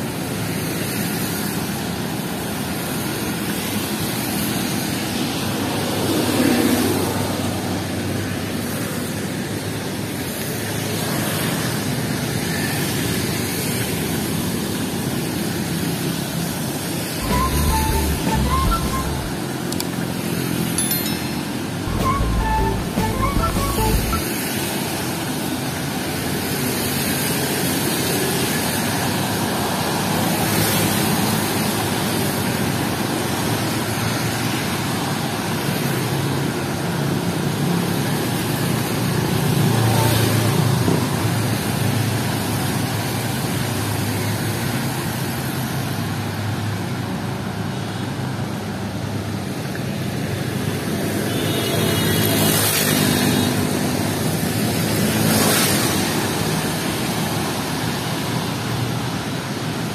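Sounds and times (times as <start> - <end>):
traffic on a wet road: 0.0 - 17.2, 24.3 - 59.9.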